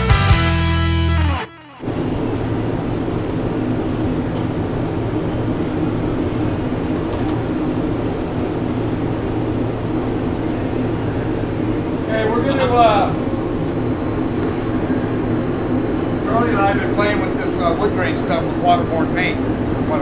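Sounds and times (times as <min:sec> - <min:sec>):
constant low hum: 0:00.0 - 0:20.0.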